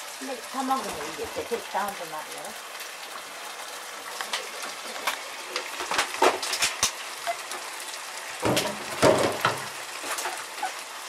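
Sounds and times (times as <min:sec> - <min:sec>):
cabbage sizzling in oil: 0:00.0 - 0:11.0.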